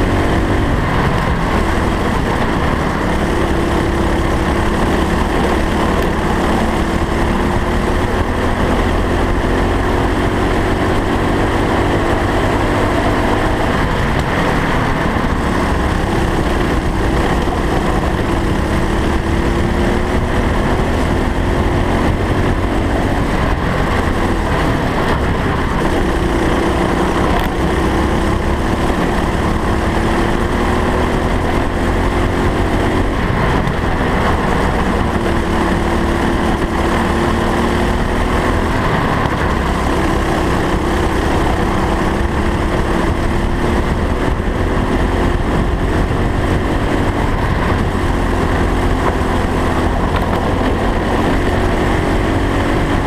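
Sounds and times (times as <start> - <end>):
kart engine: 0.0 - 53.0
track rumble: 0.0 - 53.0
wind noise: 0.0 - 53.0.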